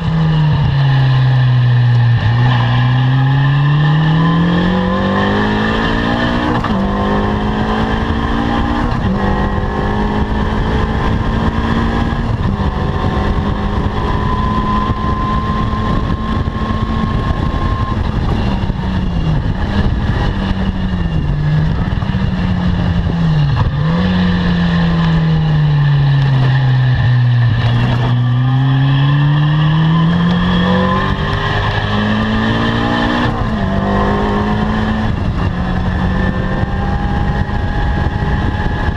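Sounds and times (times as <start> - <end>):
car engine revving hard: 0.0 - 18.4, 23.5 - 38.9
quick gear upshifts: 0.0 - 38.9.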